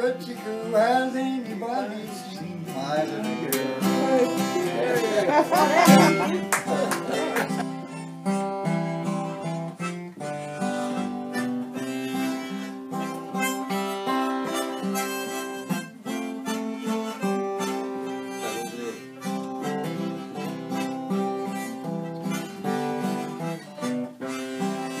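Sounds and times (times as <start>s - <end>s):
harmonica melody: 0.0s - 25.0s
strummed acoustic guitar: 0.0s - 25.0s.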